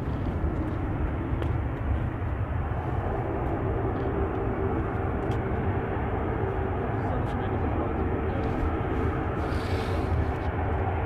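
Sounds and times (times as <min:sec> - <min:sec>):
faint whine: 0:00.0 - 0:11.0
jet engine rumble: 0:00.0 - 0:11.0.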